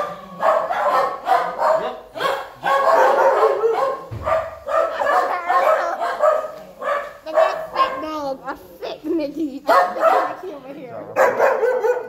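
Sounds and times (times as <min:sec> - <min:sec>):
dogs barking: 0:00.0 - 0:08.2, 0:09.7 - 0:12.0.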